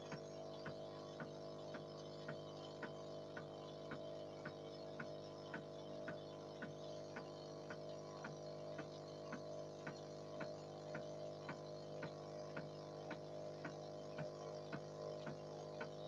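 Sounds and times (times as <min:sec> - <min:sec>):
air pump motor hum: 0:00.0 - 0:16.0
sharp mechanical ticks: 0:00.0 - 0:16.0.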